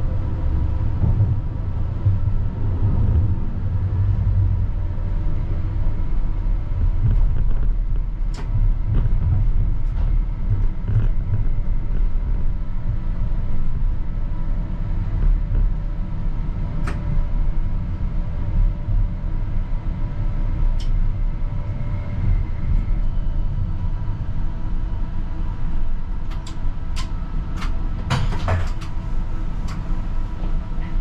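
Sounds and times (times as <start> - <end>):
tram wheels rumbling: 0.0 - 31.0.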